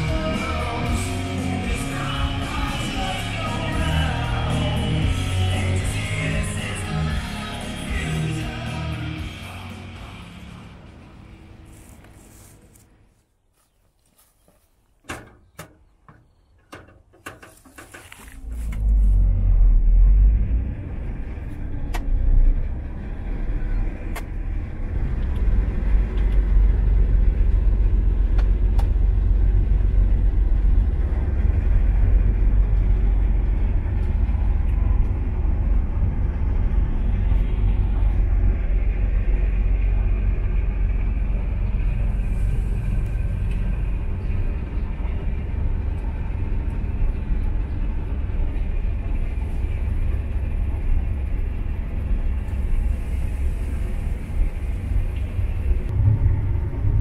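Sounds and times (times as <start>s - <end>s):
combine harvester rumbling: 0.0s - 57.0s.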